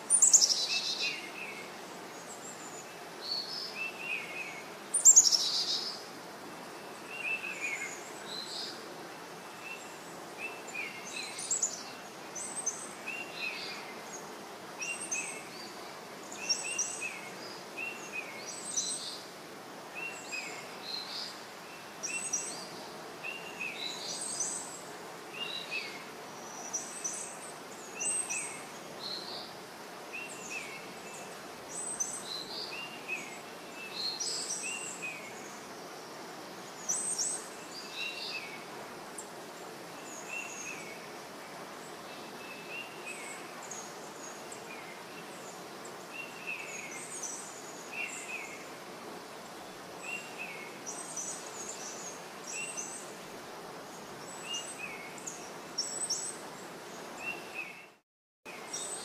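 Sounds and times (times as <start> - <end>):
steady background hiss: 0.0 - 59.0
small birds chirping: 0.1 - 59.0.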